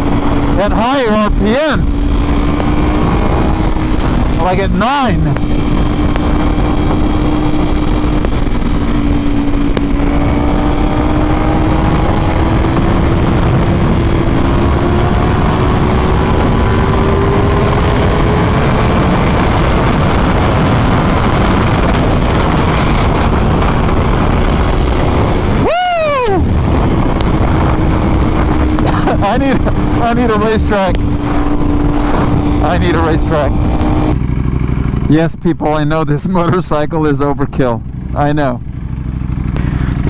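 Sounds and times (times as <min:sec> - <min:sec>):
motorcycle engine revving: 0:00.0 - 0:40.0
wind rush: 0:00.0 - 0:40.0.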